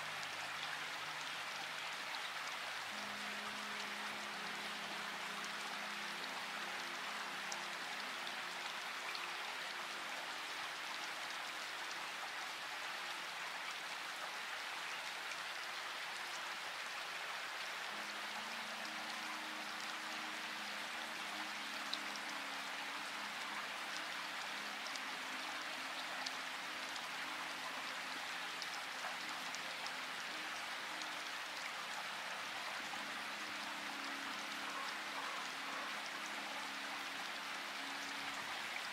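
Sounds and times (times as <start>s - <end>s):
soft low background music: 0.0s - 38.9s
steady rain falling: 0.0s - 38.9s.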